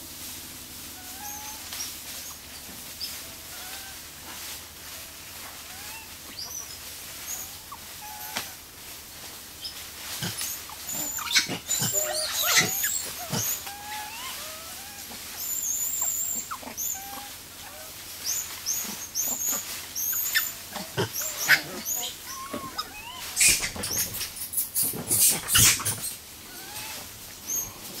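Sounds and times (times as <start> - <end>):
chirping animal calls: 0.9 - 4.1, 5.0 - 8.6, 9.6 - 28.0.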